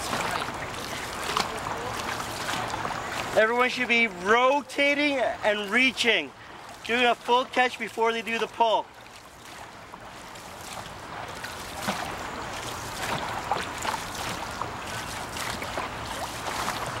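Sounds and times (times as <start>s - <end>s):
paddles splashing in water: 0.0s - 17.0s
water washing along boat: 0.0s - 17.0s.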